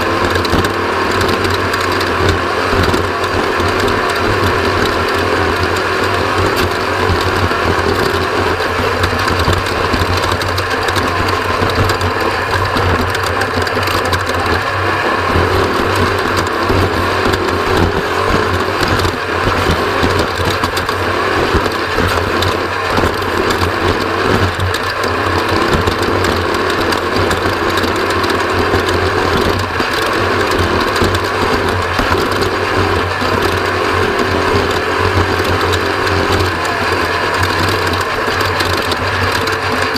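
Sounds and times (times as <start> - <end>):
dense rattle: 0.0 - 39.9
off-road vehicle engine drone: 0.0 - 39.9.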